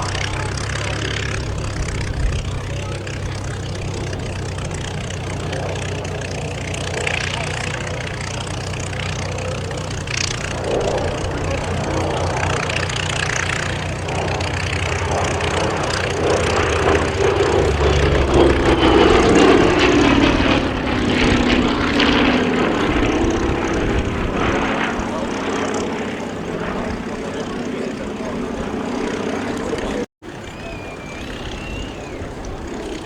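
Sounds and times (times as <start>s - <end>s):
radial piston engines running: 0.0s - 33.0s.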